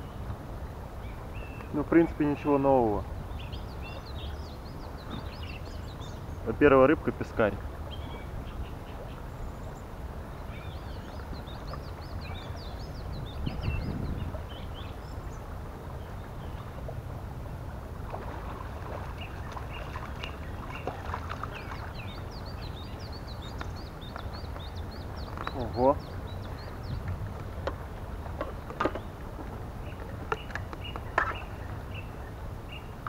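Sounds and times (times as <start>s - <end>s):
songbirds chirping: 0.0s - 33.0s.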